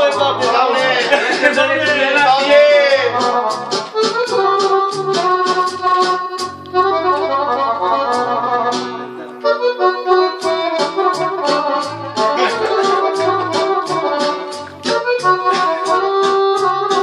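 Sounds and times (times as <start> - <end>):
accordion folk dance tune: 0.0 - 17.0.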